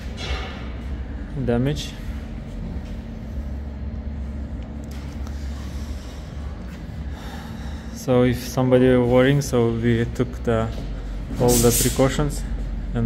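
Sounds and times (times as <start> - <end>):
workshop machinery humming: 0.0 - 13.0.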